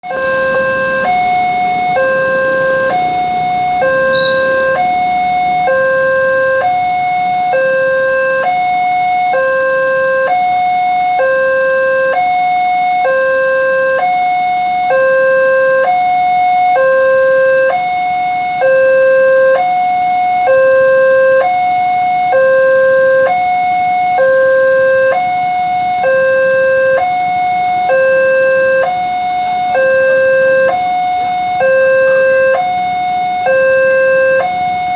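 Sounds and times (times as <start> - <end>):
level crossing two-tone alarm: 0.0 - 34.9.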